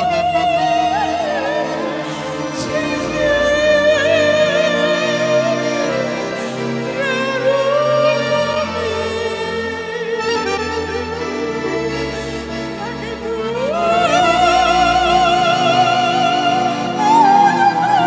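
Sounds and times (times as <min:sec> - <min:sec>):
accordion: 0:00.0 - 0:18.0
electronic keyboard: 0:00.0 - 0:18.0
woman singing with vibrato: 0:00.0 - 0:18.0.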